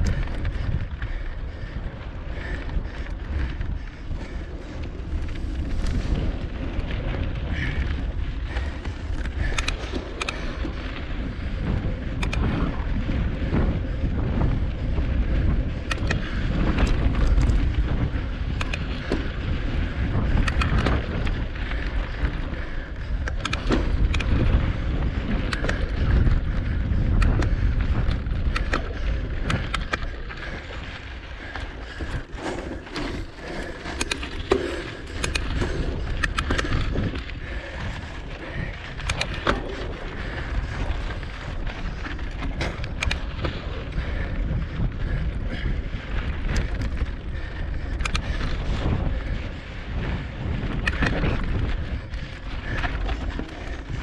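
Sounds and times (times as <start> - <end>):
bike rattling over bumps: 0.0 - 54.0
wind buffeting microphone: 0.0 - 54.0.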